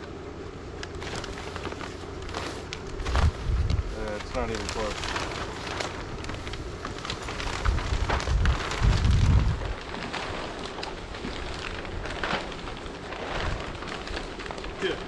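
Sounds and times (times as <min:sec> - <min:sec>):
plastic sheeting crackling: 0:00.0 - 0:15.0
wind rumbling on microphone: 0:02.9 - 0:15.0.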